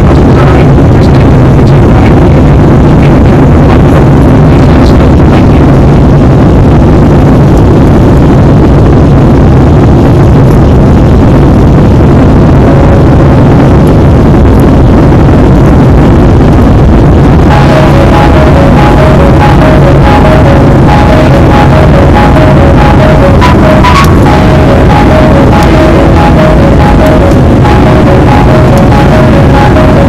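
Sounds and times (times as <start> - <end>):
jet airliner cabin noise: 0.0 - 30.0.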